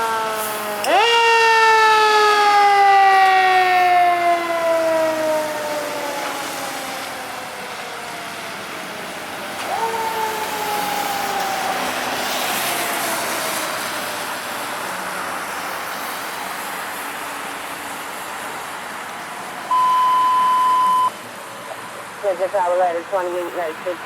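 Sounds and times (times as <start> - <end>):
fire engine siren winding down: 0.0 - 21.2
fire engine passing: 0.0 - 24.0.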